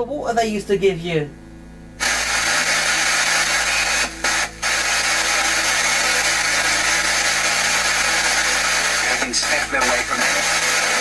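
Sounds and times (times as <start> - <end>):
radio static hiss: 2.0 - 11.0.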